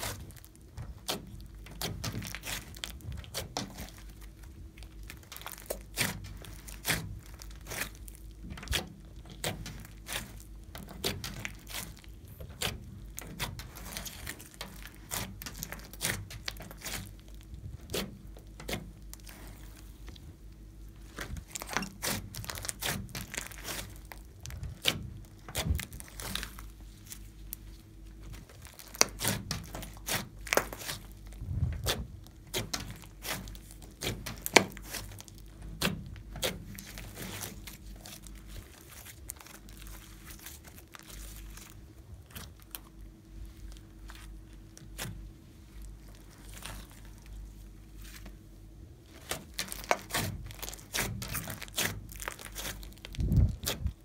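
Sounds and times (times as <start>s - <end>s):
slime squishing with sticky clicks: 0.0s - 48.4s, 49.0s - 54.0s
faint steady hum: 0.0s - 54.0s.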